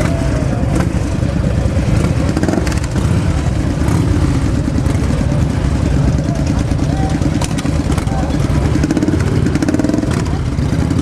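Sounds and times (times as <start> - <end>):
motorcycles idling: 0.0 - 11.0.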